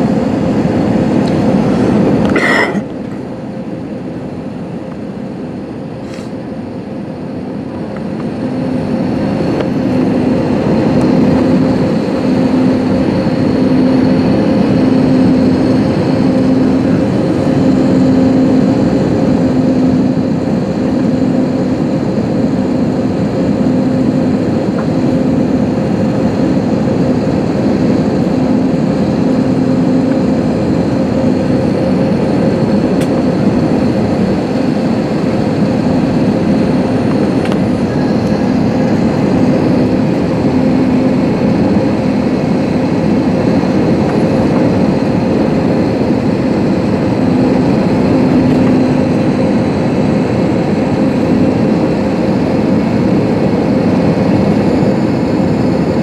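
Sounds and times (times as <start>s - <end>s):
aircraft cabin engine rush: 0.0s - 56.0s
low pulsing hum: 0.0s - 56.0s.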